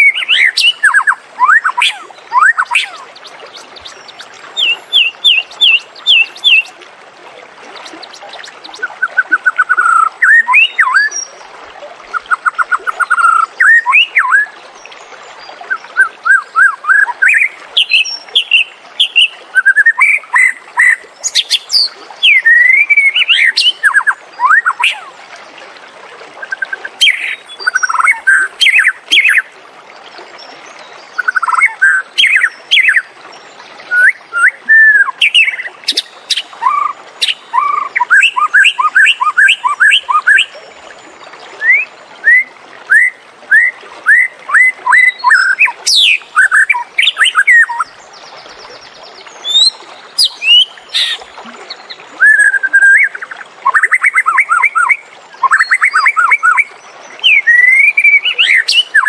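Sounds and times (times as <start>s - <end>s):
songbird whistling and trilling: 0.0s - 6.7s, 7.8s - 11.2s, 12.1s - 14.6s, 15.7s - 25.1s, 26.5s - 29.5s, 31.2s - 33.1s, 33.9s - 40.6s, 41.6s - 47.9s, 49.4s - 51.2s, 52.2s - 59.0s.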